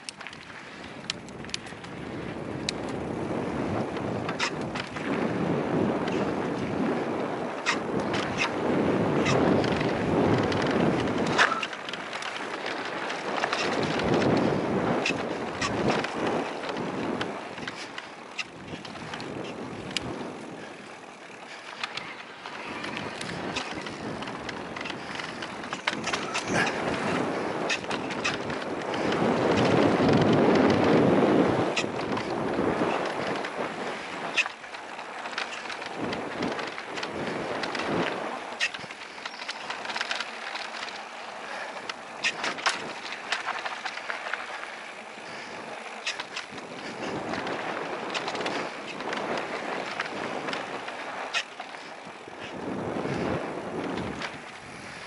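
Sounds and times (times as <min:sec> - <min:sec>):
bike rattling and clicking: 0:00.0 - 0:55.0
tires on dirt: 0:00.0 - 0:55.0.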